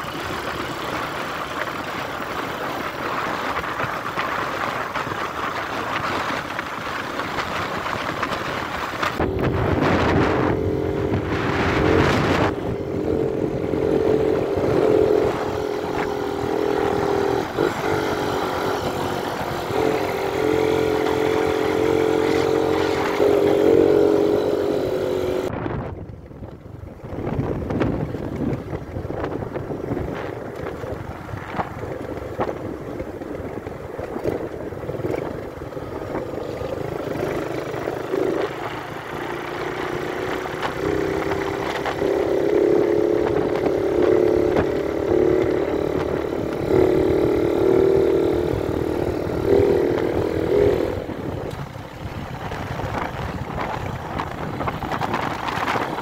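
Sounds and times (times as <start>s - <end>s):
motorcycle engine running: 0.0s - 56.0s
road and wind rumble: 0.0s - 56.0s.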